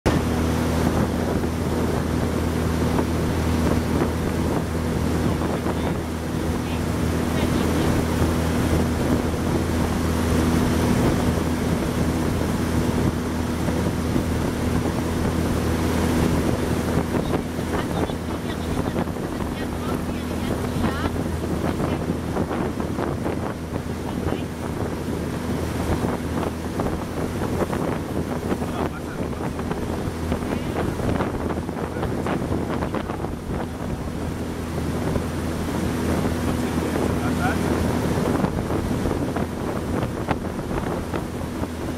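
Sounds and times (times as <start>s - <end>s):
boat motor humming: 0.0s - 41.9s
water rushing past hull: 0.0s - 41.9s
wind on microphone: 0.0s - 41.9s.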